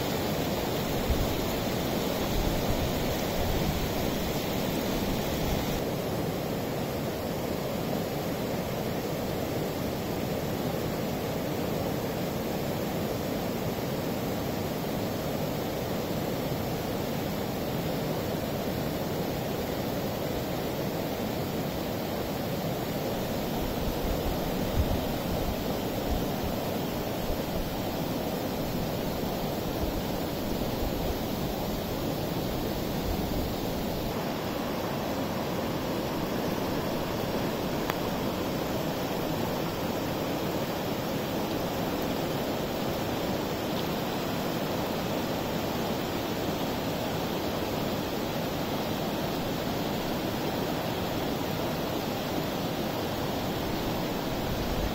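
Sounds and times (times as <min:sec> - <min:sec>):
floodwater rushing: 0:00.0 - 0:54.9.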